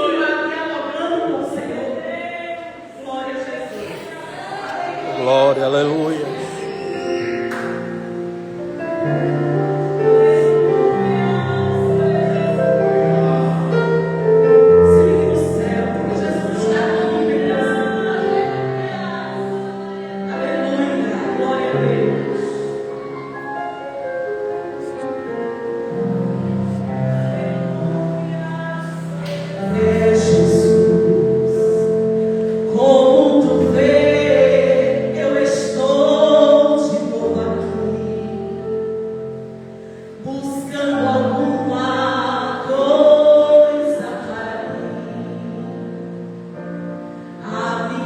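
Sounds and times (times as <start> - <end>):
gospel singing over chords: 0.0 - 48.0.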